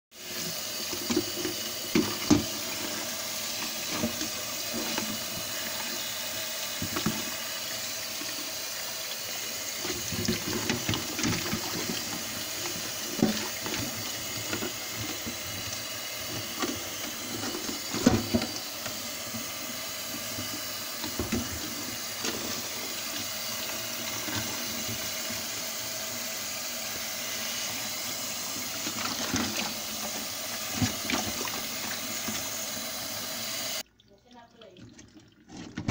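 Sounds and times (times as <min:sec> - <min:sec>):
faucet water splashing into pot: 0:00.2 - 0:35.9.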